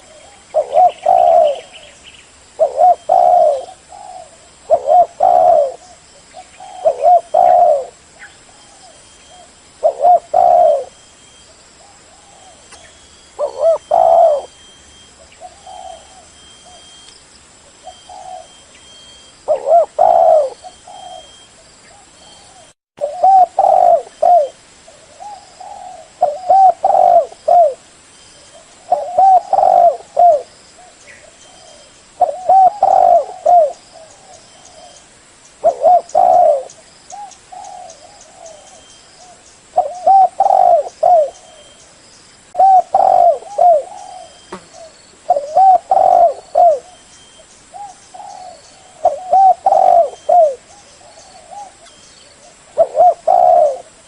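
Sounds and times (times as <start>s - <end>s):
dove cooing: 0.0s - 2.0s, 2.6s - 11.0s, 11.8s - 17.1s, 17.7s - 27.8s, 28.5s - 35.0s, 35.6s - 41.8s, 42.5s - 54.0s.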